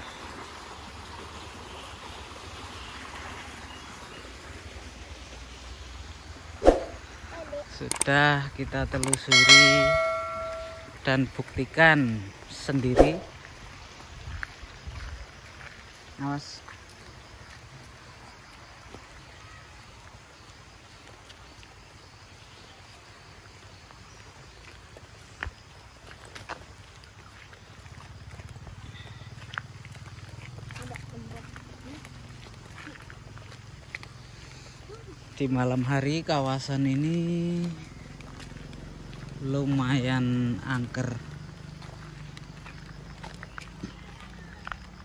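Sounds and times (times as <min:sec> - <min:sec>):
water rushing in stream: 0:00.0 - 0:11.0, 0:12.0 - 0:45.0.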